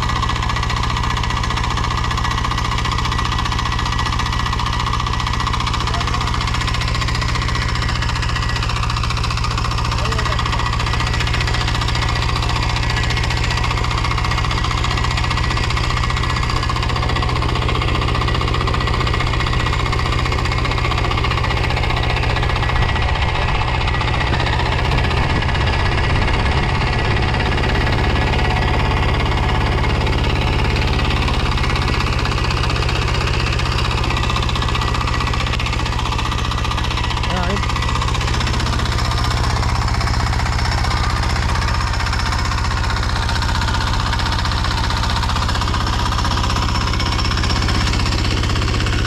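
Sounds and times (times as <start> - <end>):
small engine idling: 0.0 - 49.0.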